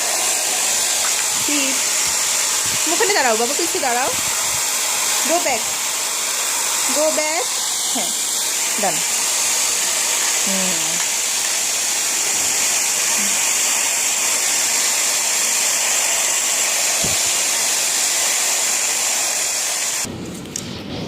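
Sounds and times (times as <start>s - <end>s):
hair dryer blowing: 0.0s - 20.2s.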